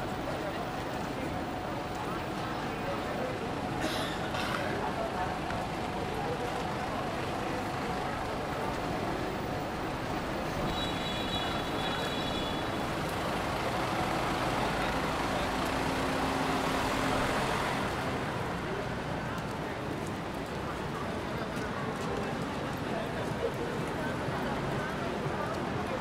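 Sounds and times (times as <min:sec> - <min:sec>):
traffic road noise: 0:00.0 - 0:26.0.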